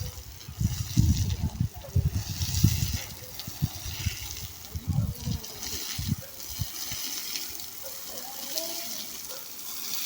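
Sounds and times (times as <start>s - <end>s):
running water hissing: 0.0s - 10.0s.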